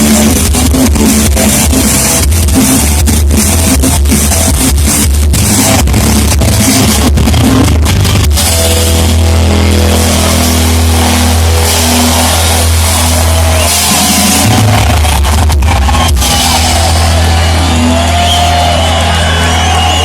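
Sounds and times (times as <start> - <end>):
distorted live rock band: 0.0 - 20.0.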